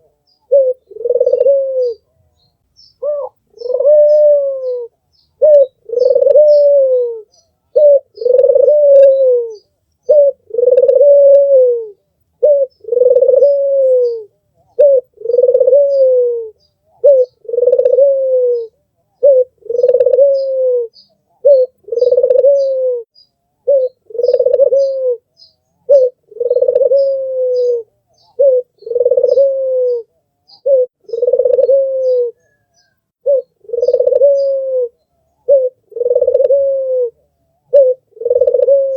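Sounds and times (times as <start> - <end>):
dove cooing: 0.0 - 2.4, 3.0 - 38.9
small birds chirping: 0.0 - 11.3, 11.9 - 38.9.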